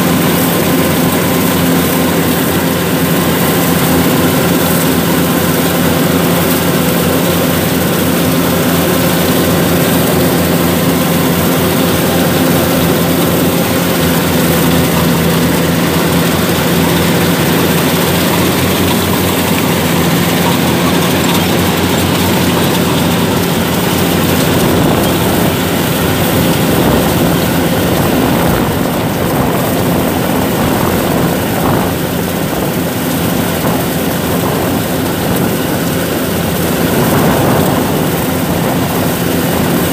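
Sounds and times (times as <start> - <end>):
combine harvester engine drone: 0.0 - 39.9
cutting and threshing machinery: 0.0 - 39.9.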